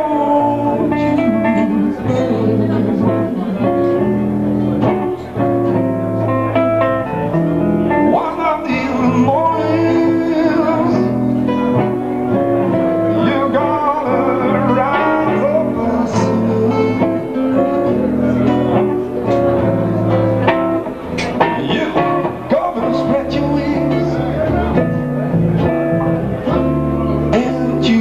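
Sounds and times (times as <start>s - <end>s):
man singing: 0.0s - 5.1s, 7.9s - 20.3s, 21.3s - 25.7s, 26.5s - 28.0s
acoustic bass playing: 0.0s - 28.0s
acoustic guitars playing: 0.0s - 28.0s.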